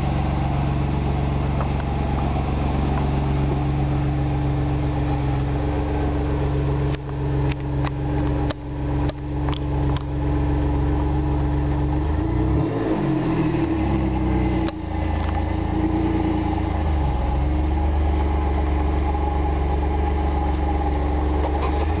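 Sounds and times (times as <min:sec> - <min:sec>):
car exhaust idling: 0:00.0 - 0:22.0.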